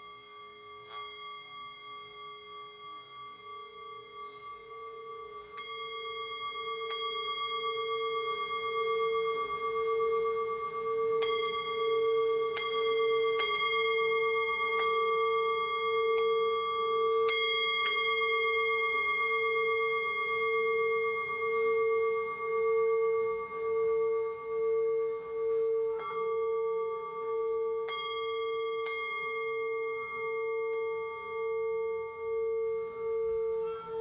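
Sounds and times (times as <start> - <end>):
singing bowl ringing: 0.0 - 34.0
singing bowl strikes: 0.0 - 34.0.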